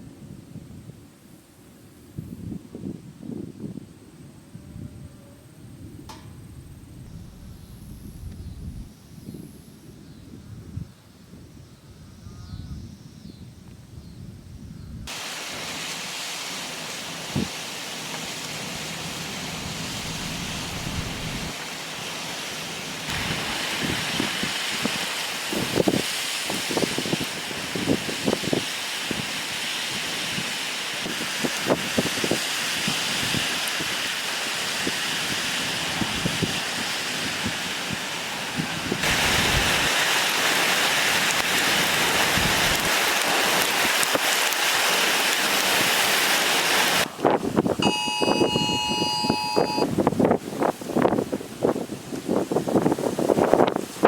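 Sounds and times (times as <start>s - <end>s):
storm wind and rain: 0.0s - 11.6s, 12.7s - 54.0s
wind gusts buffeting microphone: 2.1s - 15.2s, 19.2s - 21.6s, 23.1s - 46.2s, 46.9s - 54.0s.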